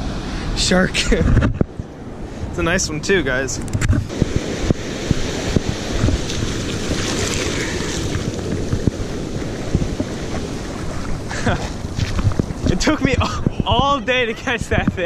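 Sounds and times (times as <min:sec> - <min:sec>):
surf washing over shallows: 0:00.0 - 0:15.0
wind buffeting microphone: 0:00.0 - 0:15.0.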